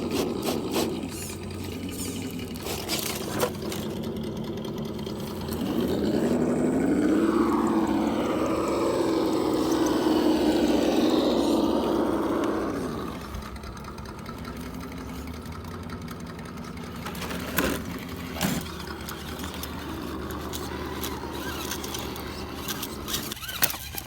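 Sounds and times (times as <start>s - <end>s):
clicks: 0.0s - 24.0s
low motor hum: 0.0s - 24.0s
motor and gear whine: 0.0s - 24.0s.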